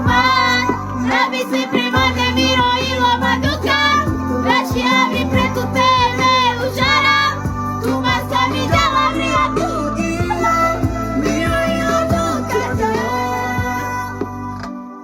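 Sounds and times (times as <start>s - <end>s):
high voice singing with vibrato: 0.0s - 15.0s
instrumental backing with bass: 0.0s - 15.0s.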